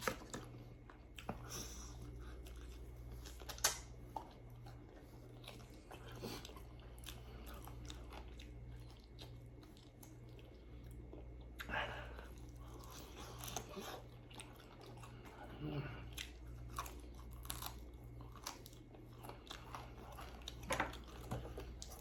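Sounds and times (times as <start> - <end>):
chewing and biting food: 0.0 - 22.0.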